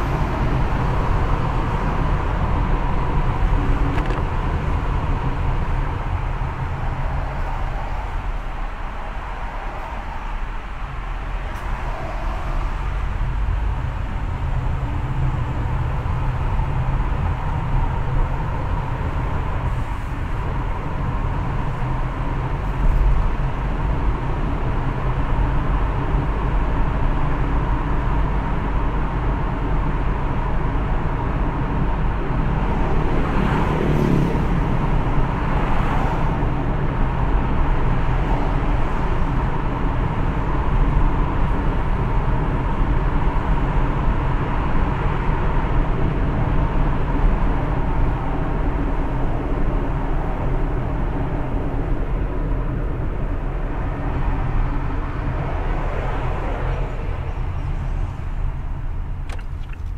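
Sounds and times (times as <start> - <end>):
car driving road noise: 0.0 - 59.9.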